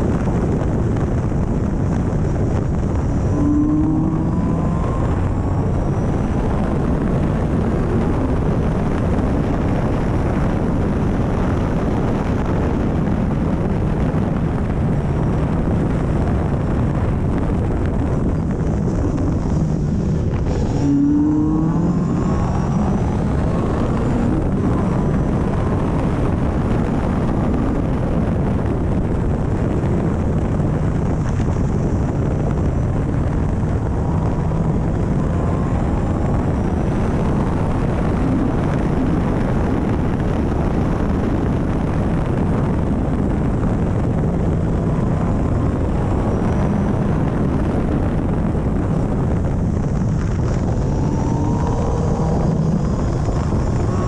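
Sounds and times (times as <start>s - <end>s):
car engine under load: 0.0s - 54.0s
wind rush: 0.0s - 54.0s.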